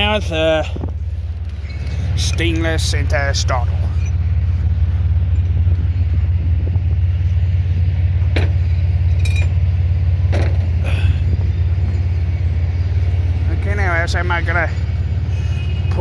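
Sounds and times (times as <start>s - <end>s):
pickup truck engine running: 0.0s - 16.0s.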